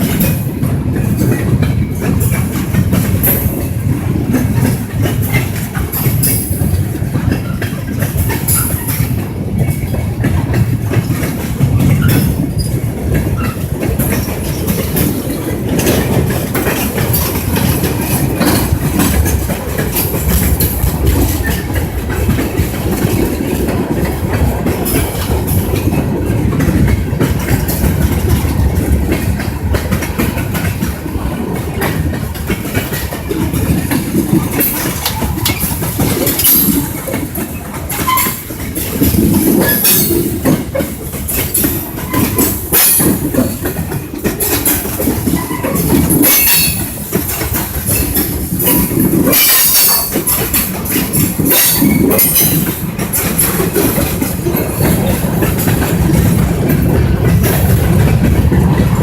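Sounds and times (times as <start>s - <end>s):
train rumbling on track: 0.0s - 59.0s
wheels clicking and clattering: 0.0s - 59.0s.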